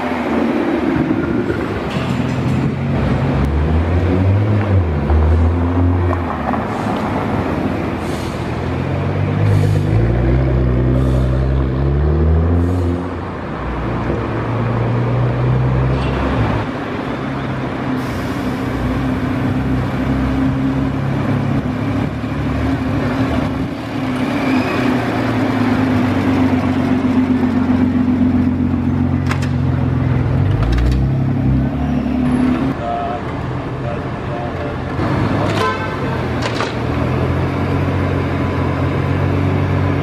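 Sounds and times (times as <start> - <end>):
car engine rumbling: 0.0 - 40.0.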